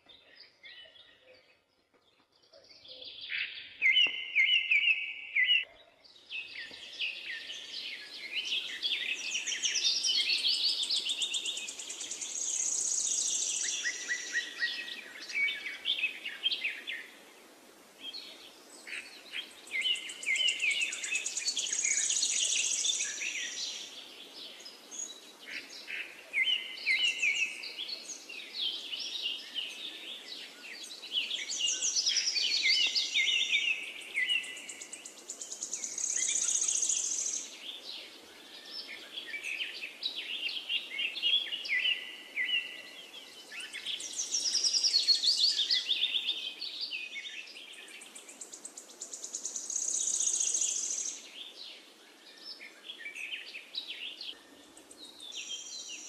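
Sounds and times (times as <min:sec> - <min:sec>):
birds singing: 0:00.0 - 0:56.0
faint steady hiss: 0:06.1 - 0:56.0.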